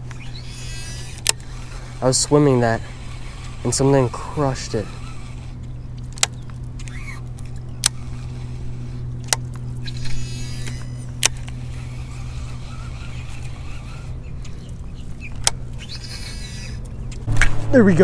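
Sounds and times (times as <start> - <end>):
fishing reel clicking: 0.0 - 16.8
spool whirring: 0.0 - 17.4
low hum: 0.0 - 18.0.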